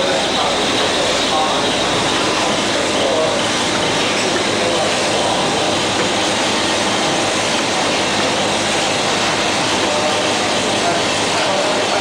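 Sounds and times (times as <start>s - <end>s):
bottle filling machine clattering: 0.0s - 12.0s.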